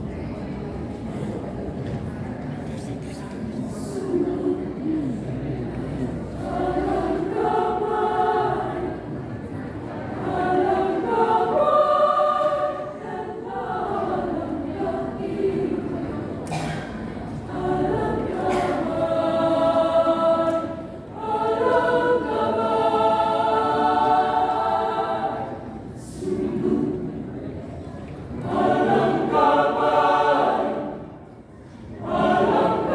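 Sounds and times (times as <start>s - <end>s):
mixed choir singing in harmony: 3.8s - 32.9s.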